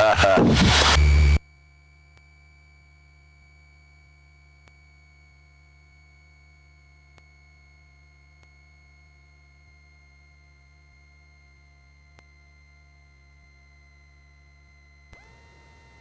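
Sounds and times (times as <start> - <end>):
high-pitched electrical whine: 0.0 - 16.0.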